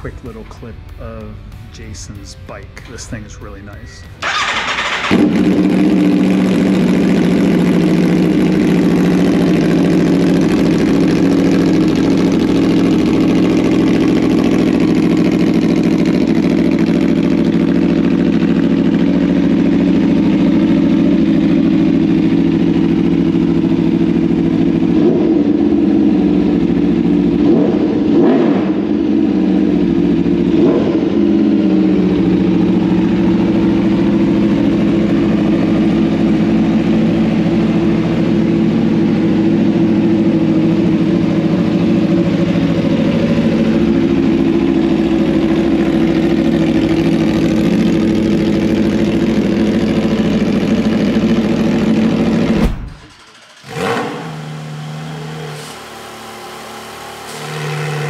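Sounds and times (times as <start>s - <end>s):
motorcycle engine idling: 2.9s - 57.2s.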